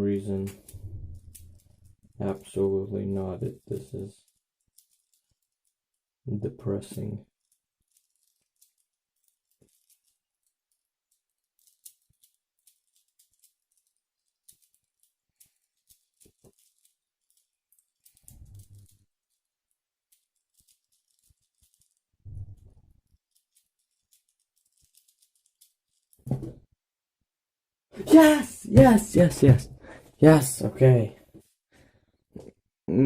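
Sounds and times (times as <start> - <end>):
puzzle cube clicking and rattling: 0.5 - 6.1, 6.7 - 26.3, 28.0 - 30.5.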